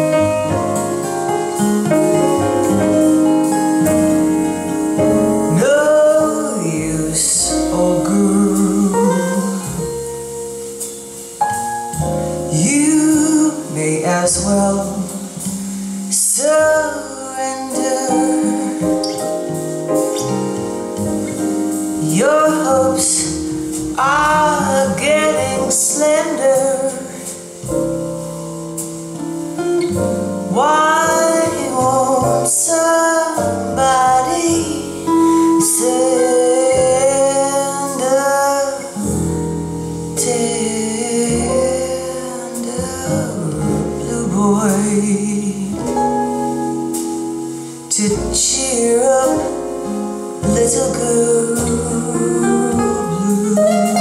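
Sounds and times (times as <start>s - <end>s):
jazz song over loudspeakers: 0.0s - 54.0s.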